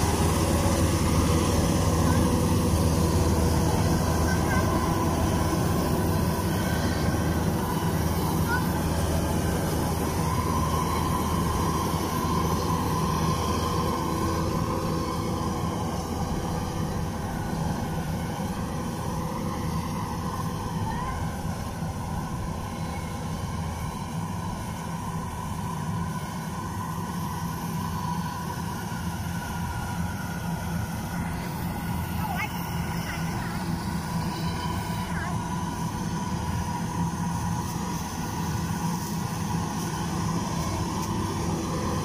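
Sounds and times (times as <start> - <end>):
combine harvester running: 0.0 - 42.0.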